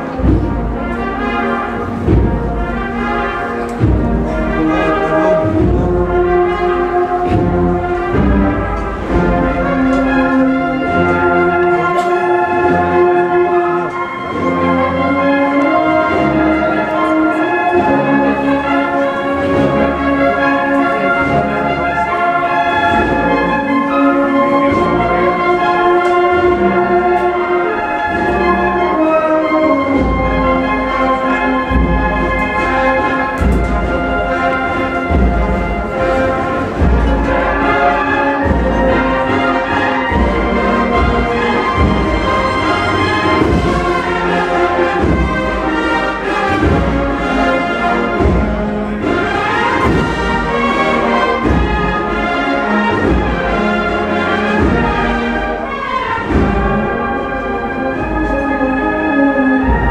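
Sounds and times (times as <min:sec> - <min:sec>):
steady drum beat: 0:00.0 - 0:22.2, 0:22.8 - 0:59.9
brass band playing march: 0:00.0 - 0:59.9.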